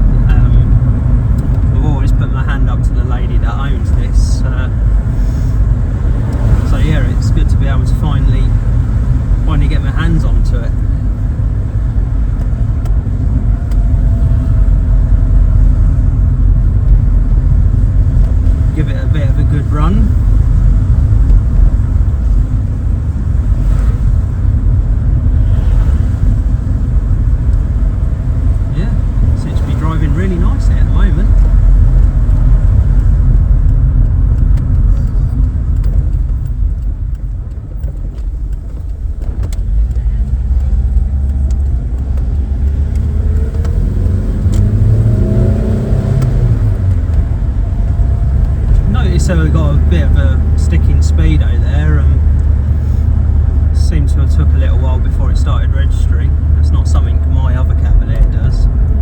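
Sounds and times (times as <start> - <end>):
car engine driving: 0.0 - 59.0
road rumble: 0.0 - 59.0.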